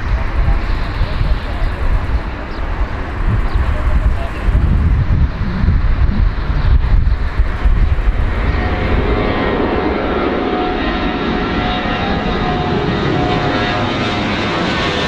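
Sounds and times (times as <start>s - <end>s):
gusty low rumble: 0.0s - 15.0s
jet airliner engines roaring: 0.0s - 15.0s.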